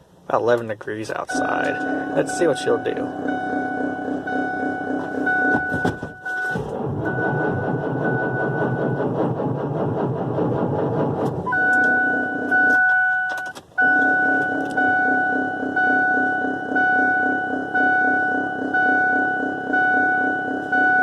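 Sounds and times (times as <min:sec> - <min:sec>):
diesel engine cranking: 0:00.5 - 0:21.0
dashboard warning chime: 0:01.2 - 0:09.0, 0:11.5 - 0:21.0.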